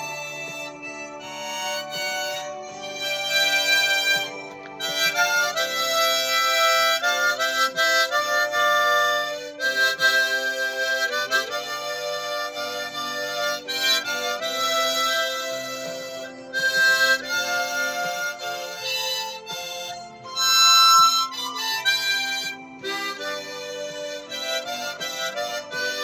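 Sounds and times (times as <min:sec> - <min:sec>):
harmonica playing slow melody: 0:00.0 - 0:26.0.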